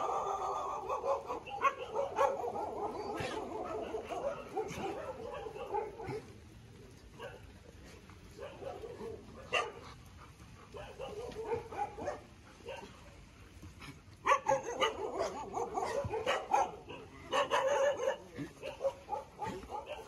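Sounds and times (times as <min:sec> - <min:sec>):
dogs barking and whining: 0:00.0 - 0:20.0.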